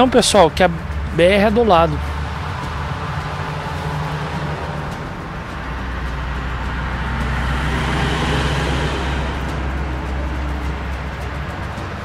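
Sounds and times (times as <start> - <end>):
truck passing on highway: 0.0 - 12.0.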